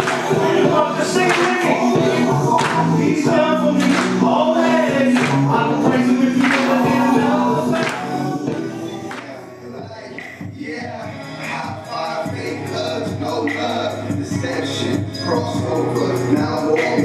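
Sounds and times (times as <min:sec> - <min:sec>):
band playing worship music: 0:00.0 - 0:17.0
gospel singing voices: 0:00.0 - 0:17.0.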